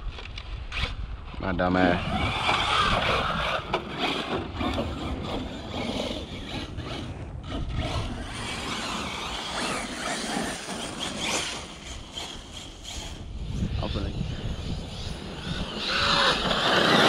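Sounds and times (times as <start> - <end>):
wind rumbling on microphone: 0.0 - 17.0
tyres scraping through loose dirt: 0.1 - 17.0
electric rc truck motor: 1.7 - 17.0.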